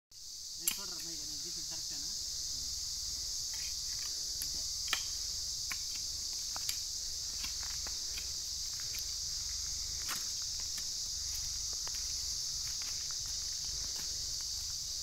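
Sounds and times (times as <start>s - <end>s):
insects droning: 0.1s - 15.0s.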